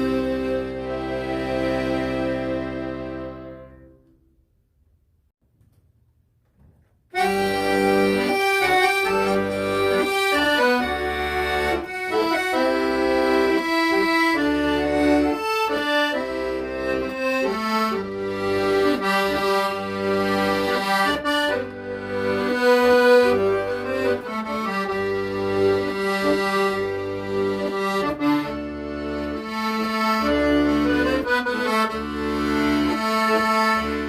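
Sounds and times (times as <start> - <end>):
accordion playing slow melody: 0.0 - 4.1, 7.2 - 34.0.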